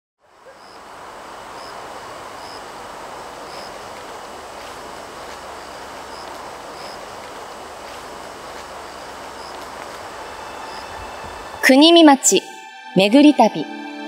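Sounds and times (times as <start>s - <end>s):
high insect drone: 0.2s - 12.0s
rushing hiss of leaves: 0.2s - 12.4s.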